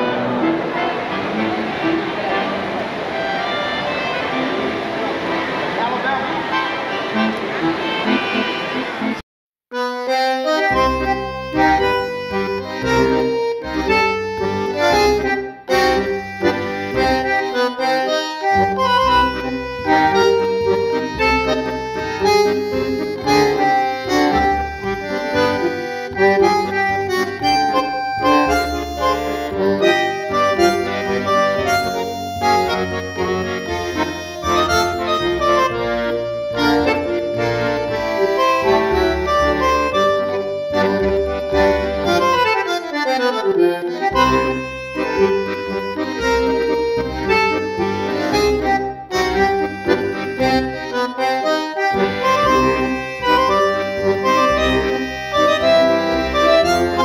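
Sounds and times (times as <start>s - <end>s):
accordion music: 0.0s - 57.0s.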